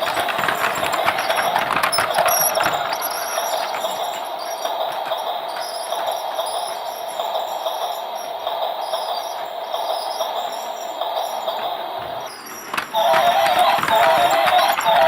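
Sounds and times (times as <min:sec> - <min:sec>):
rapid clicking and rattling: 0:00.0 - 0:15.0
toy train motor whining: 0:00.0 - 0:15.0.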